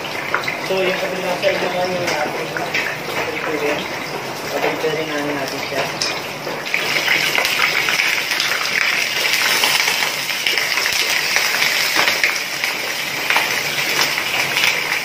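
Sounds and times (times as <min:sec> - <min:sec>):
hot oil sizzling and spattering: 0:00.0 - 0:15.0.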